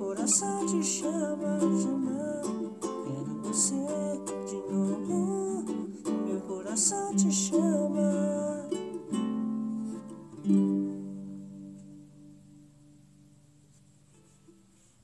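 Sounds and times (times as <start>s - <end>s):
person singing: 0.0s - 12.2s
small nylon-string guitar: 0.0s - 15.0s.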